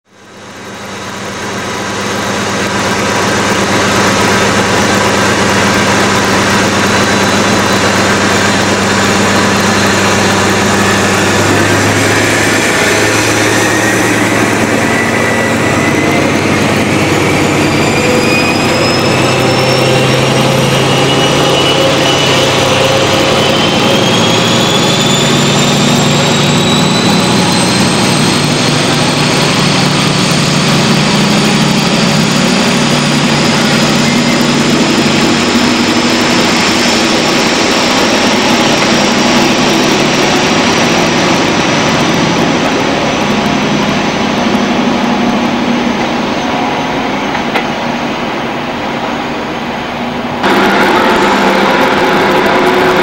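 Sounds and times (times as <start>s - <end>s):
diesel locomotive engine running: 0.0s - 53.0s
turbocharger whistle: 0.3s - 48.1s, 49.5s - 53.0s.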